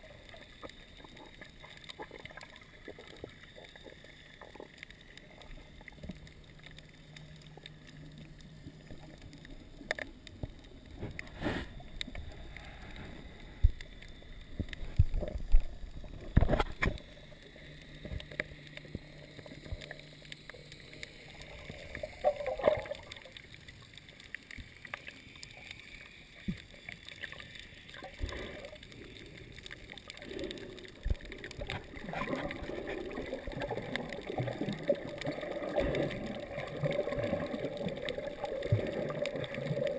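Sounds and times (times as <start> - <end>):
muffled underwater water movement: 0.0 - 39.9.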